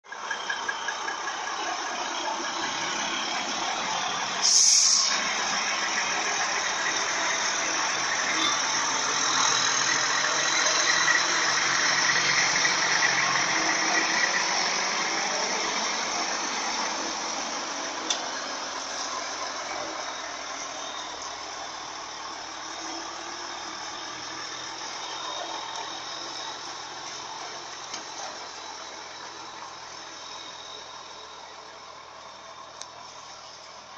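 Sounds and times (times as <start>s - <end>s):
engine with open exhaust: 0.0s - 33.9s
loud exhaust blast: 1.8s - 31.5s.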